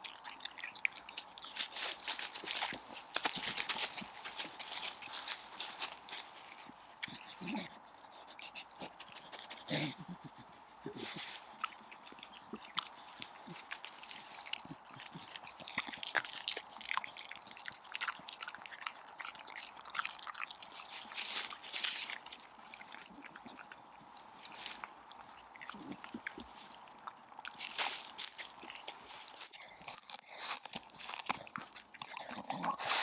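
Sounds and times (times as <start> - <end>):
dog chewing and tearing grass: 0.0 - 33.0.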